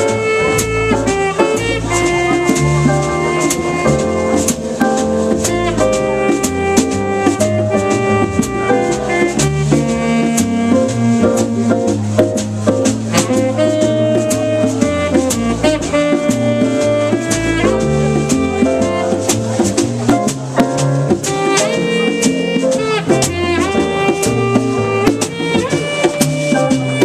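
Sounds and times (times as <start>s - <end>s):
drums with cymbal strokes: 0.0s - 27.0s
held melodic notes: 0.0s - 27.0s
low bass line: 0.0s - 27.0s.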